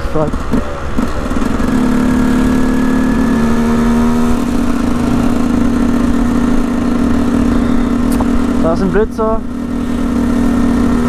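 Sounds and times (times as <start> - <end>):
two-stroke motorcycle engine running: 0.0 - 11.0.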